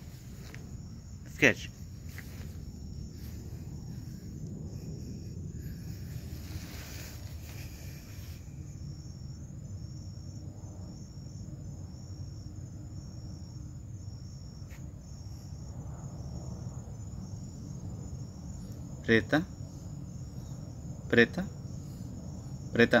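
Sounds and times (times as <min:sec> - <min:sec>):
low background rumble: 0:00.0 - 0:22.8
cricket chirping: 0:00.0 - 0:23.0
steady high whine: 0:00.0 - 0:23.0.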